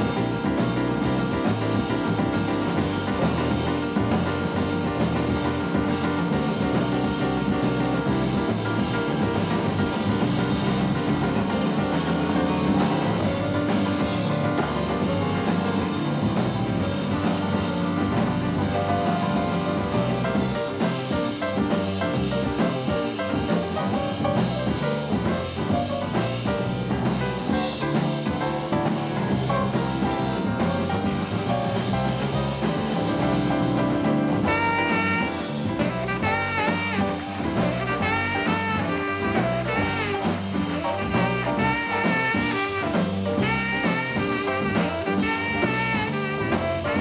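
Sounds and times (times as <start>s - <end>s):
bass: 0.0s - 47.0s
cymbals keeping a beat: 0.0s - 47.0s
piano: 0.0s - 47.0s.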